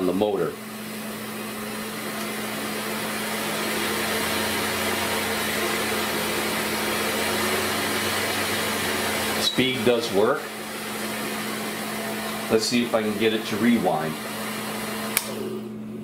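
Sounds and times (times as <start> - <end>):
projector motor humming: 0.0 - 16.0.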